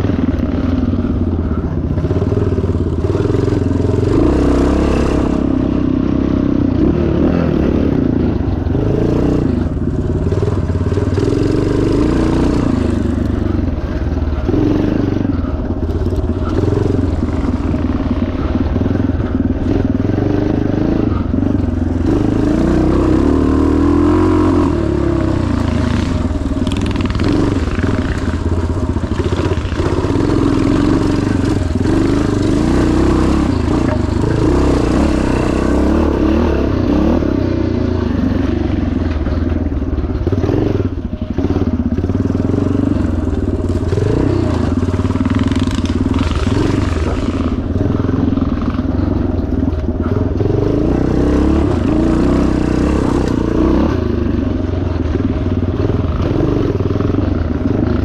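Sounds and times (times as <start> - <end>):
motorcycle engine revving: 0.0 - 58.0
rattling over rough ground: 0.0 - 58.0.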